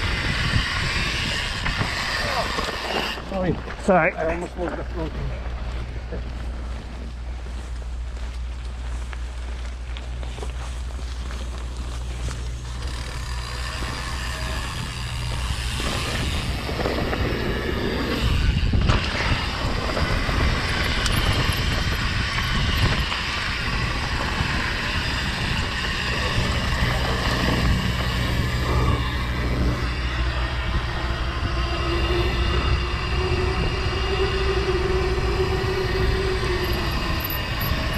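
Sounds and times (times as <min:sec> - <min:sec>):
wind rushing over microphone: 0:00.0 - 0:07.8, 0:11.7 - 0:37.9
tyres rumbling over dirt: 0:00.0 - 0:37.9.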